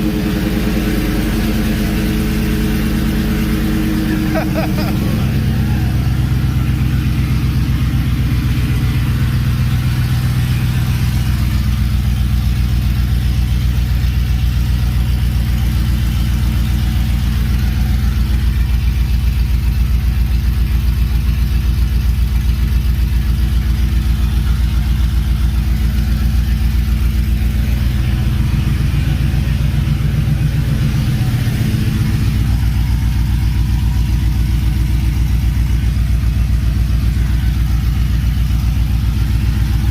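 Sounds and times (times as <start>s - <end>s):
truck engine idling loudly: 0.0s - 39.9s.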